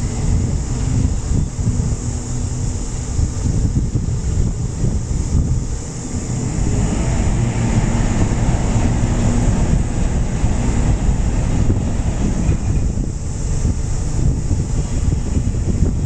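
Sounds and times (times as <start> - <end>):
ferry diesel engine hum: 0.0 - 16.0
wind buffeting microphone: 0.0 - 16.0.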